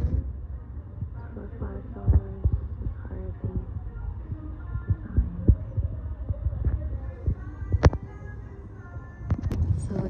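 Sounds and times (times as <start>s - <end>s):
faint store background noise: 0.0s - 10.0s.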